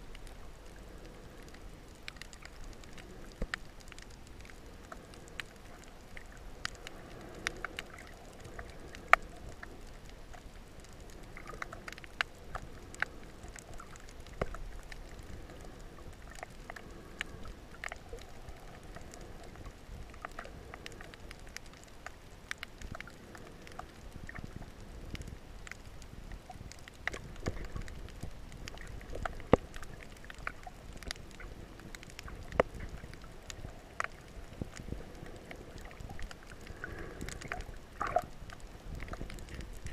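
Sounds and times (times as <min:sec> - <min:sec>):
sharp underwater clicks and crackles: 0:00.0 - 0:39.9
underwater rumble of moving water: 0:00.0 - 0:39.9.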